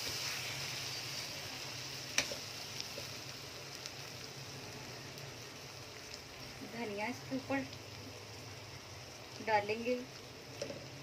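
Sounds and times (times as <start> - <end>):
curry sizzling in oil: 0.0 - 11.0.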